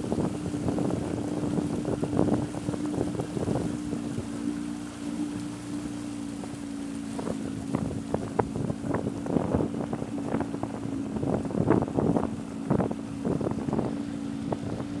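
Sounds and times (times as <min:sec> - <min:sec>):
water splashing against hull: 0:00.0 - 0:15.0
wind on microphone: 0:00.0 - 0:15.0.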